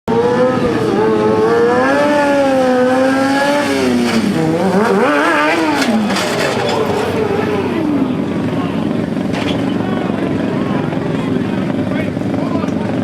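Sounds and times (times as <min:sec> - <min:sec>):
motorcycle engine revving high: 0:00.1 - 0:13.0.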